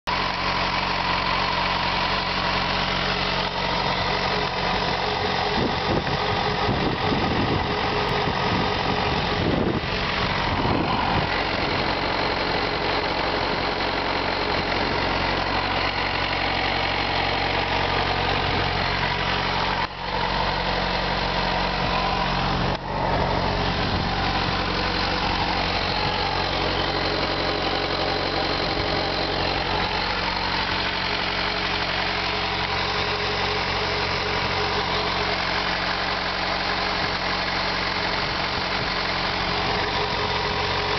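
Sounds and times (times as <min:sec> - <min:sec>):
engine ticking: 0:00.0 - 0:40.9
motorcycle engine idling: 0:00.0 - 0:40.9.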